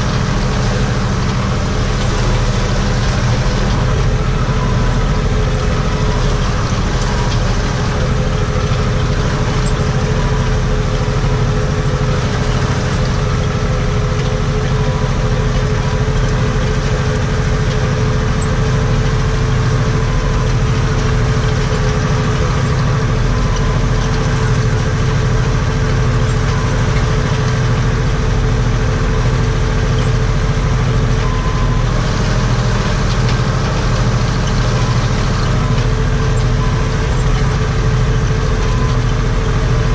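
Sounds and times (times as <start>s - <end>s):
steady mechanical whine: 0.0s - 39.9s
tractor diesel engine running: 0.0s - 39.9s.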